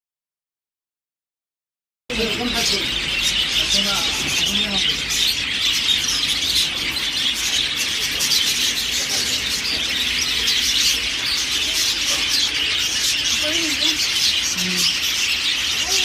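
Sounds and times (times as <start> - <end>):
small birds chirping: 2.1 - 16.0.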